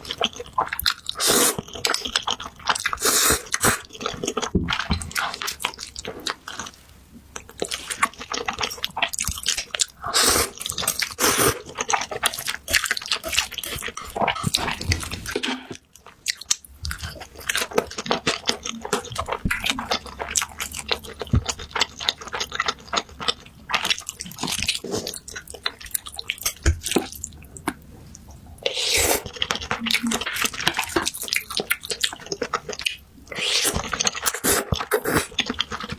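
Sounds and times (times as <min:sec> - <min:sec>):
person chewing noodles: 0:00.0 - 0:35.9.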